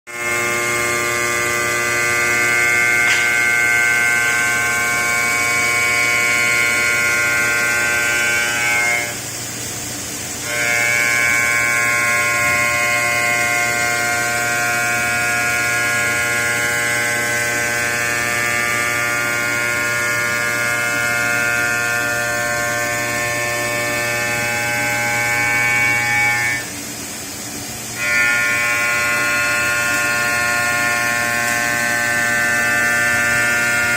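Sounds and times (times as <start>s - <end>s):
stone machining spindle whine: 0.1s - 33.9s.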